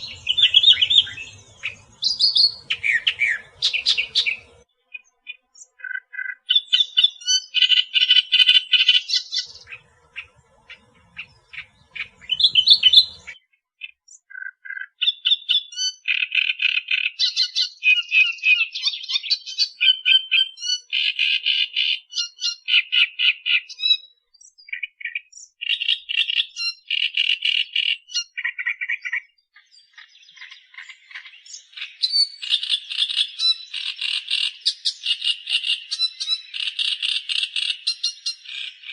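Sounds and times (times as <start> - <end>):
reed warbler singing: 0.0 - 38.9.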